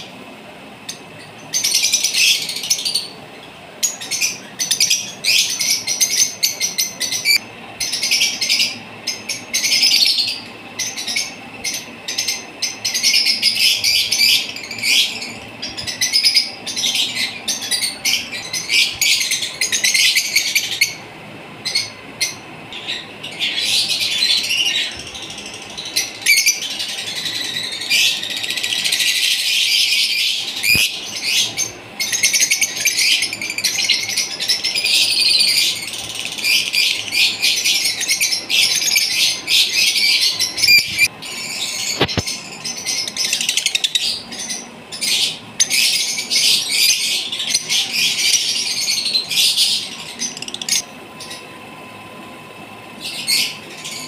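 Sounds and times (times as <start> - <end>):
lovebirds chirping shrilly: 0.8 - 51.5.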